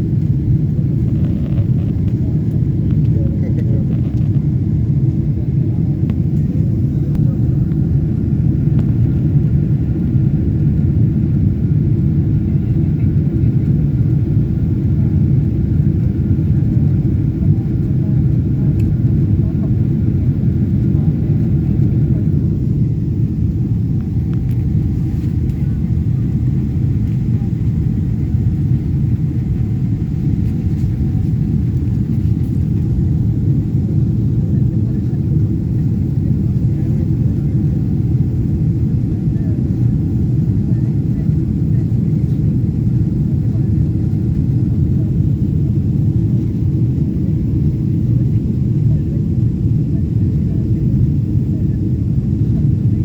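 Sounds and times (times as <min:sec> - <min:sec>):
jet cabin engine rumble: 0:00.0 - 0:53.0.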